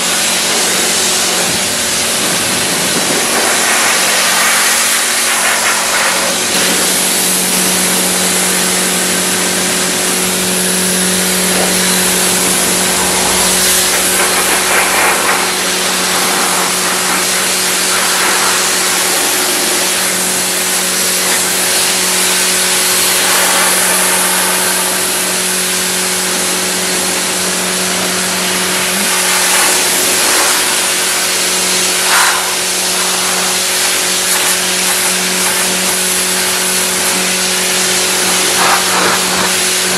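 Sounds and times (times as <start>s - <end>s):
high-pressure water jet hissing: 0.0s - 39.9s
pressure washer motor hum: 0.0s - 39.9s.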